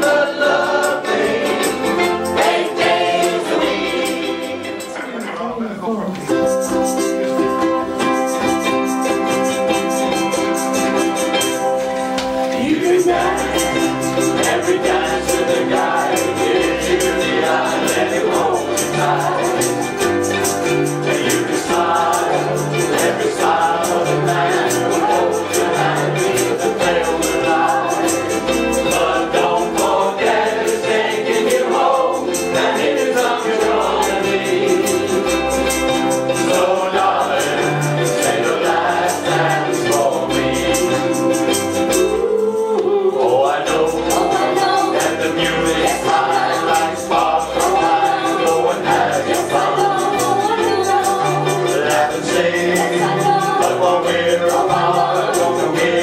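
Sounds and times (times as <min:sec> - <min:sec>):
group singing: 0:00.0 - 0:05.4, 0:06.3 - 0:56.0
ukulele strumming: 0:00.0 - 0:56.0.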